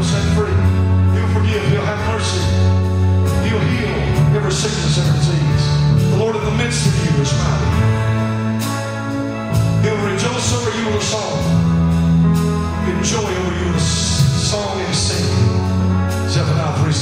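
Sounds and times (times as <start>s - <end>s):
live praise band music: 0.0s - 17.0s.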